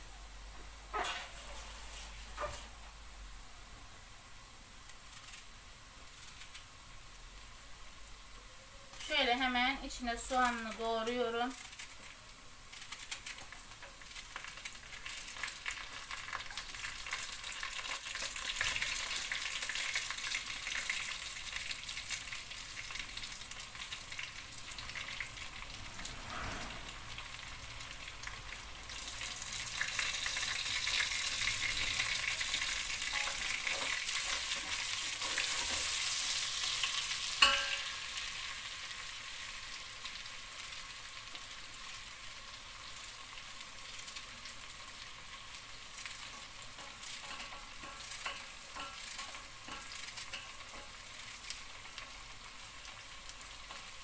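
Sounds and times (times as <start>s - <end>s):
meat and onion sizzling in oil: 0.0s - 54.0s.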